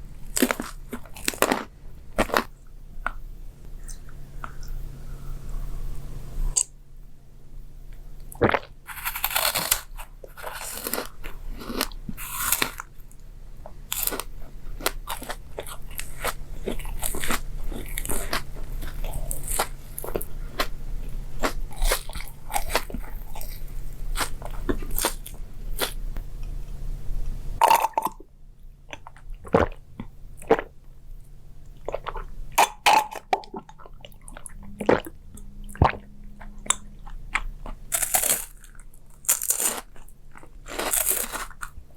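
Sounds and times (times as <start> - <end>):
crunchy chewing of food: 0.0 - 4.8, 8.2 - 26.8, 27.6 - 41.9.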